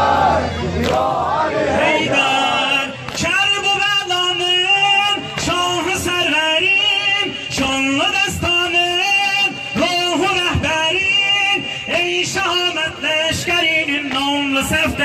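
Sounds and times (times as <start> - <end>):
man singing a lament: 1.8 - 15.0.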